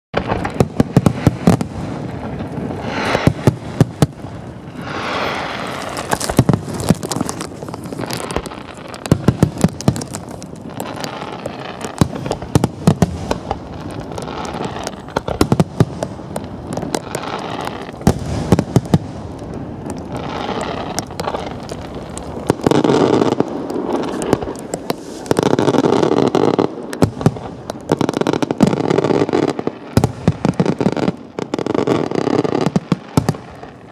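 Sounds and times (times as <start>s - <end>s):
fireworks crackling and banging: 0.2s - 33.9s.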